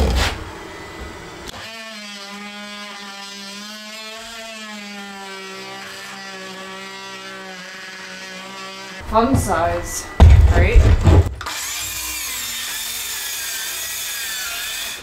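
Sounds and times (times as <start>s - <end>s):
oscillating multi-tool buzzing: 1.4s - 15.0s.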